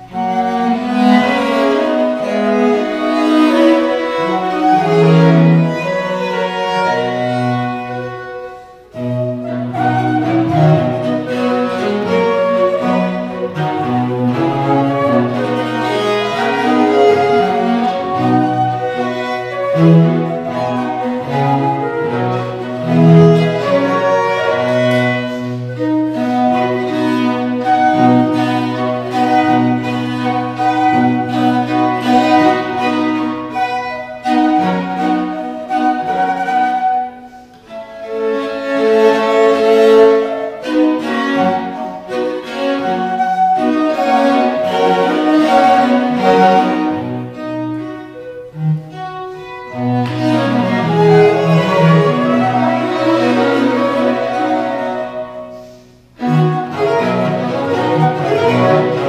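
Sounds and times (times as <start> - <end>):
chamber quartet playing: 0.0 - 59.0.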